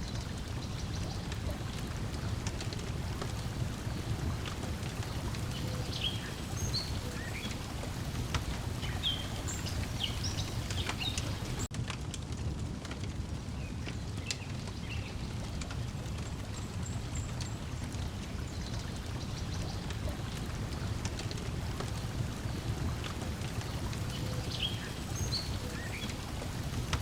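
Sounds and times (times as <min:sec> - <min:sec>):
songbirds chirping: 0:00.0 - 0:11.7, 0:13.5 - 0:27.0
water lapping: 0:00.0 - 0:11.7, 0:15.4 - 0:27.0
wood fire crackling: 0:00.0 - 0:27.0.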